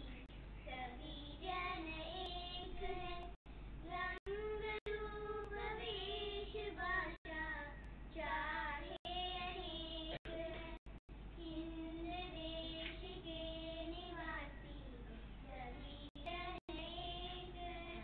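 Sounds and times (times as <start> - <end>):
girls singing slow melody: 0.0 - 18.0.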